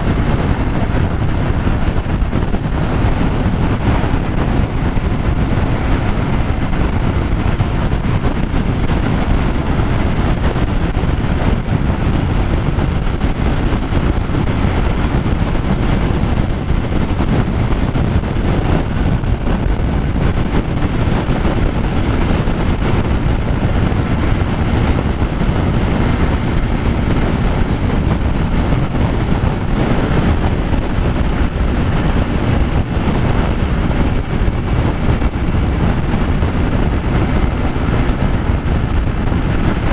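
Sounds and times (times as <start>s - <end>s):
motorcycle engine: 0.0s - 39.9s
road noise: 0.0s - 39.9s
wind rushing over microphone: 0.0s - 39.9s.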